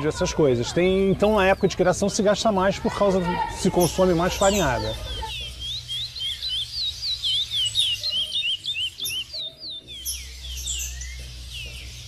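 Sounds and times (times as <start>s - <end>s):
songbirds whistling: 0.0s - 12.0s.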